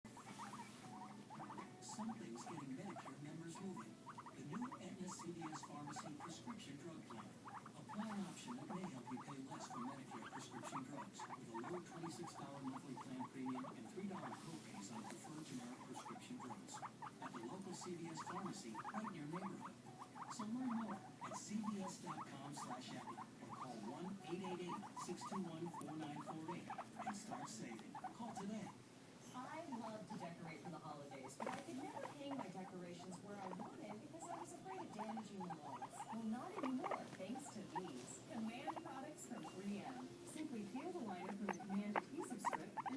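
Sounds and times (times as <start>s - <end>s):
guinea pigs squeaking: 0.0s - 42.9s.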